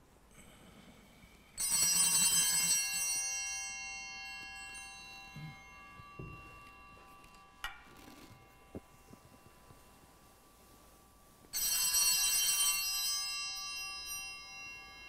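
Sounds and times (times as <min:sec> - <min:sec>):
small altar bells ringing: 0:01.2 - 0:15.0.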